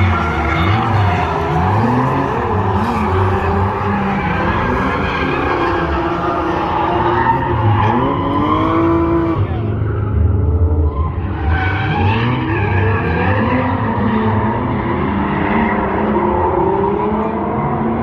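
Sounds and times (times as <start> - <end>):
car engines revving hard: 0.0 - 18.0
tyres skidding: 0.0 - 18.0.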